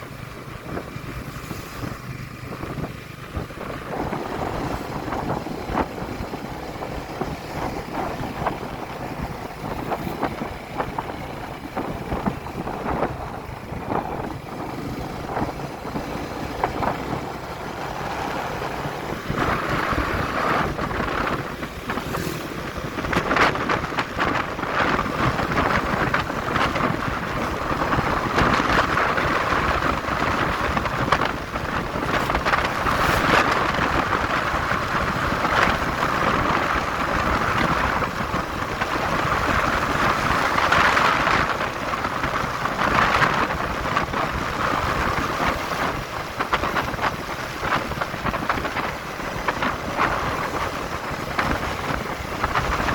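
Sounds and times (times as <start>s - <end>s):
motorcycle engine: 0.0s - 52.9s
road noise: 0.0s - 52.9s
wind buffeting microphone: 0.0s - 52.9s.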